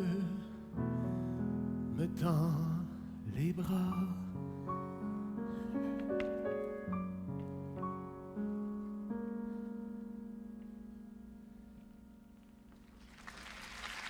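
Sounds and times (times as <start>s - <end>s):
piano notes and chord: 0.0s - 13.1s.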